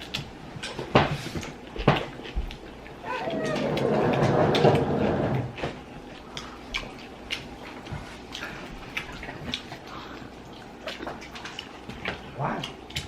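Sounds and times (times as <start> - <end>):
eating clicks and smacks: 0.0 - 4.8, 5.4 - 13.0.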